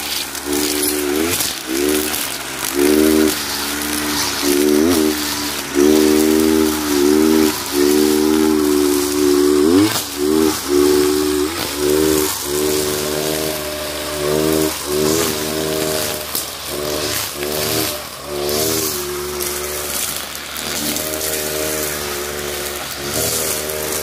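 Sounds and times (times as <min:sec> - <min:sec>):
brush cutter engine revving: 0:00.0 - 0:24.0
cutting head hissing through grass: 0:00.0 - 0:24.0.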